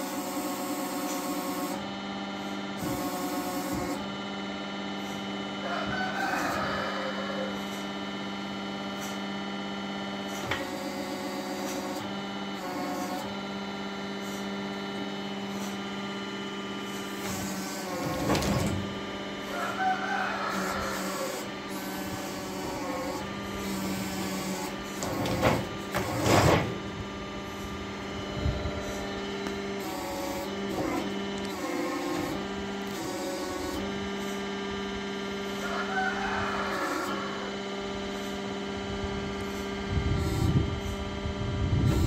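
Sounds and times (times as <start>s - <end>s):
sawmill humming and whining: 0.0s - 42.0s.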